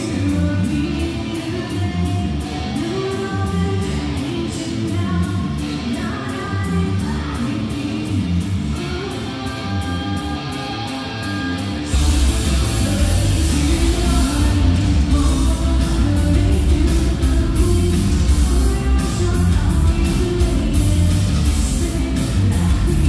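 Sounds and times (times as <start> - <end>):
drum kit: 0.0 - 23.0
electric guitar: 0.0 - 23.0
woman singing: 0.0 - 23.0.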